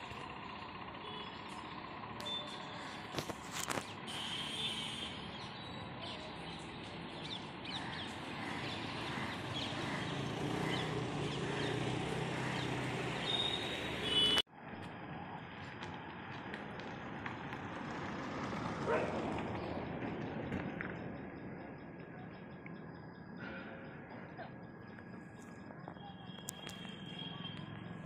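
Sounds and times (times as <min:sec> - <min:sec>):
motorcycle and scooter engines: 0:00.0 - 0:28.0
quiet outdoor ambience: 0:00.0 - 0:28.0.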